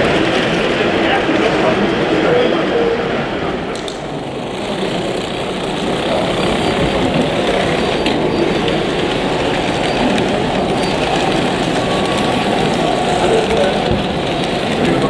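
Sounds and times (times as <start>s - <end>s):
model trains rolling on track: 0.0s - 15.0s.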